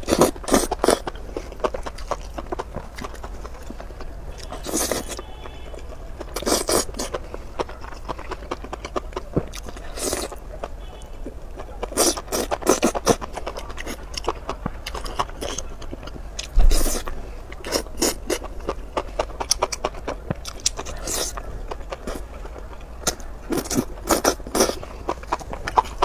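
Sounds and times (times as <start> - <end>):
mouth slurping and chewing: 0.0 - 26.0.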